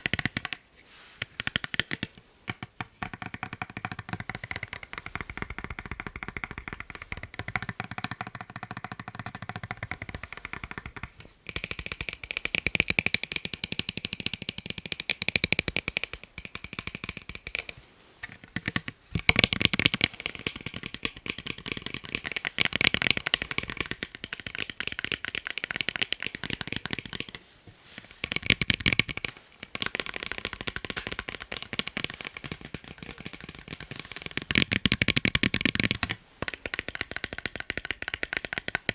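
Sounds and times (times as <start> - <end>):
tapping on eyeglasses: 0.0 - 0.6, 1.2 - 38.9.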